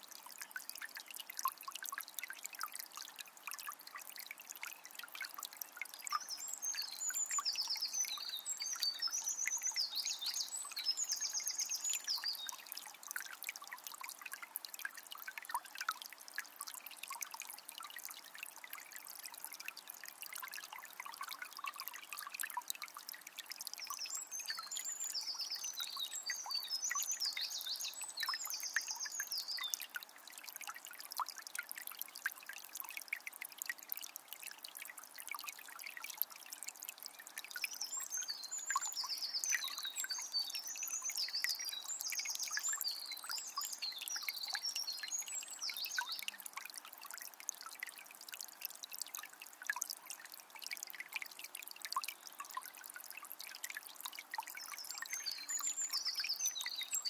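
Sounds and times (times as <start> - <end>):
river trickling and splashing: 0.0 - 57.0
water drips: 0.0 - 57.0.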